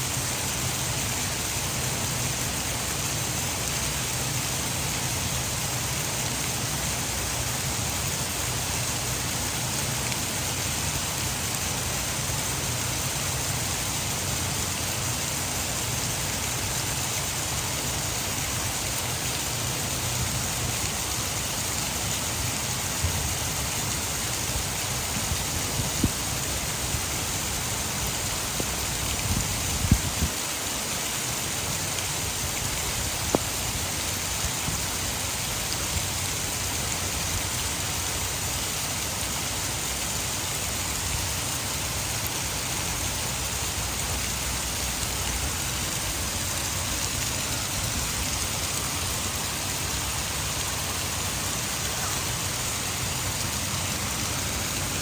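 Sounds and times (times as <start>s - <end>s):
heavy rain: 0.0s - 55.0s
water rushing from a dam: 0.0s - 55.0s.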